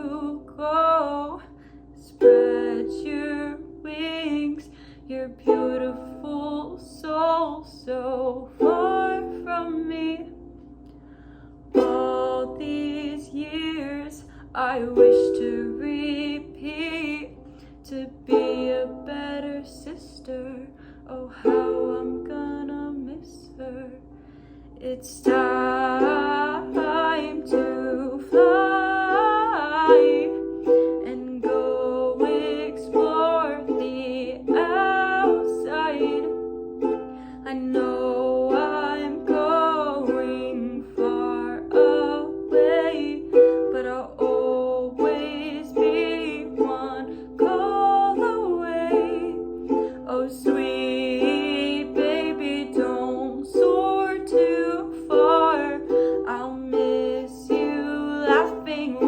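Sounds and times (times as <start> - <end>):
young woman singing: 0.0 - 10.6, 11.7 - 24.1, 24.8 - 59.0
ukulele chords: 0.0 - 11.1, 11.7 - 59.0.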